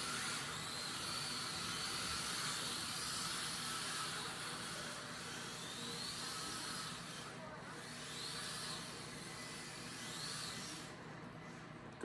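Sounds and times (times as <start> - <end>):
small electric motor whining: 0.0 - 11.6.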